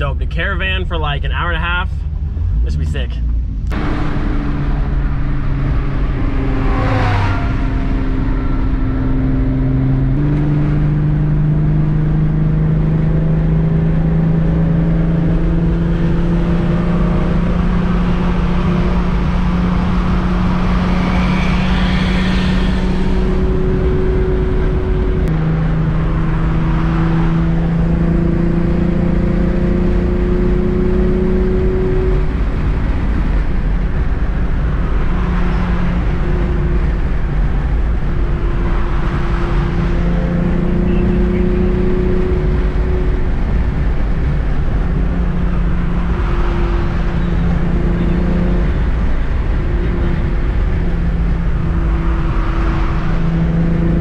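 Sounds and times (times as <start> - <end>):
car engine drone: 0.0 - 54.0
tyre and road rumble: 0.0 - 54.0
passing cars swishing: 1.3 - 54.0.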